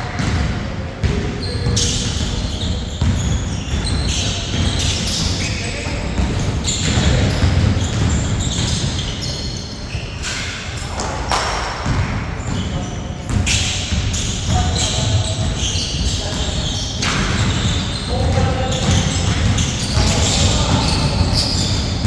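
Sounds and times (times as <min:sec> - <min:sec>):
players' voices: 0:00.0 - 0:09.6, 0:12.4 - 0:22.0
sneakers squeaking: 0:00.0 - 0:22.0.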